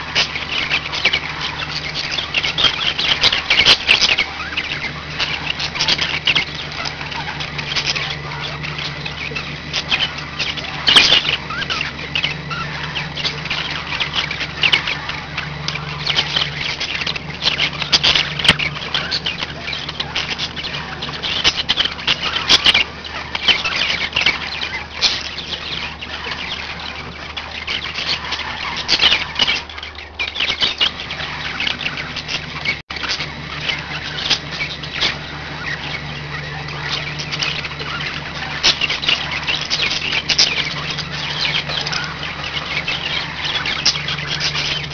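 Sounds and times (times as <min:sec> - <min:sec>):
budgerigars chattering and warbling: 0:00.0 - 0:44.9.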